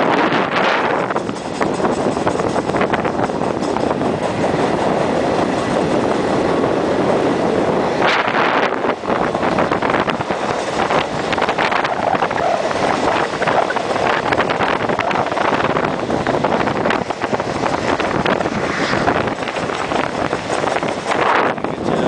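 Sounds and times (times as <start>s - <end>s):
train rattles and clicks: 0.0s - 22.0s
train running noise: 0.0s - 22.0s
wind rushing over microphone: 0.0s - 22.0s.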